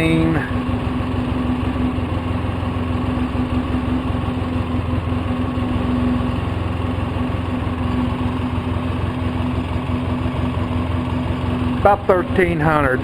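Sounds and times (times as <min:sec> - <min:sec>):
four-stroke engine idling: 0:00.0 - 0:13.0.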